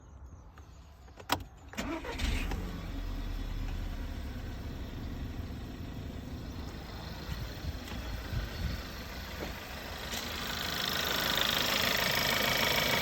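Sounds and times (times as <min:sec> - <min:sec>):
car engine starting and idling: 0:01.3 - 0:13.0.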